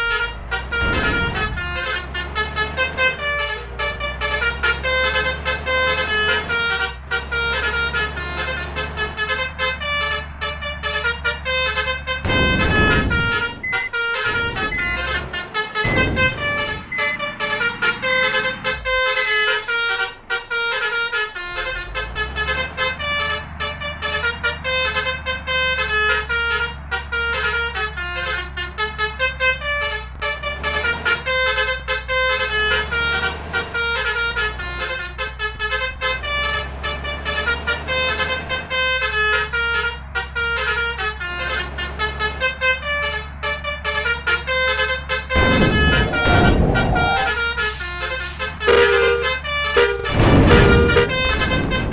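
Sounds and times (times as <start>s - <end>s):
multi-trumpet air horns tune: 0.0s - 29.8s, 30.4s - 51.9s
low engine hum: 0.0s - 51.9s.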